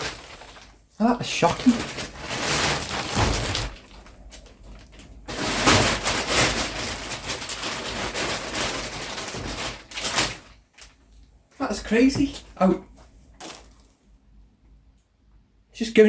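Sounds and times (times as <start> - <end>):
plastic wrapping crackling: 0.0 - 12.7, 13.3 - 14.1.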